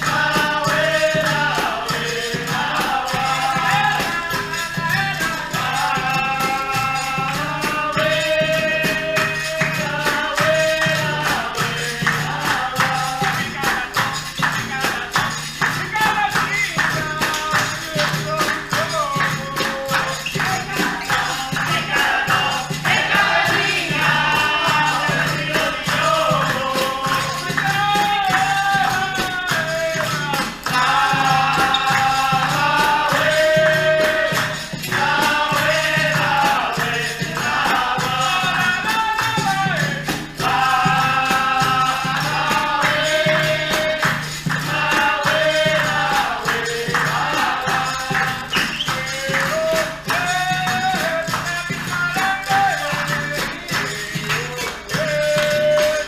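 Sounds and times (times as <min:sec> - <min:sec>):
berimbau and pandeiro: 0:00.0 - 0:56.0
group singing: 0:00.0 - 0:56.0.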